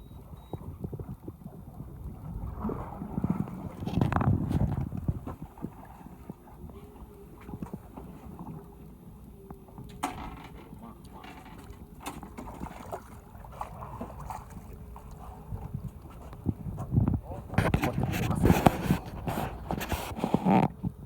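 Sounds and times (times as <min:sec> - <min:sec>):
boat low rumble: 0:00.0 - 0:21.0.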